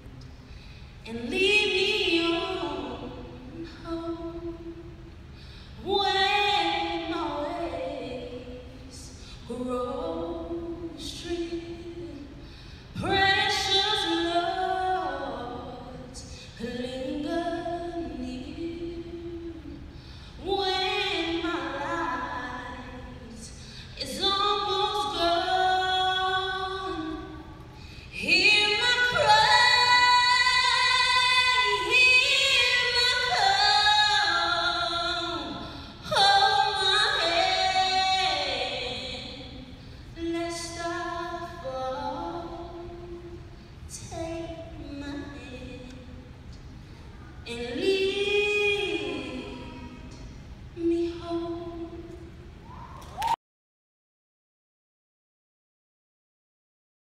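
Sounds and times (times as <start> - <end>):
woman singing unaccompanied: 1.0 - 5.0, 5.8 - 12.4, 13.0 - 46.3, 47.4 - 52.3.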